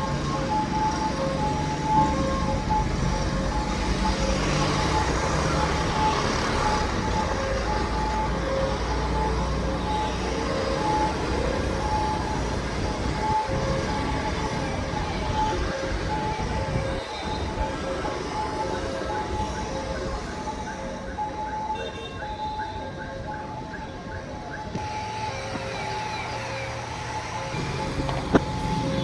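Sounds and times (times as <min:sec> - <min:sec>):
road traffic: 0:00.0 - 0:29.0
two-tone siren beeps: 0:00.0 - 0:29.0.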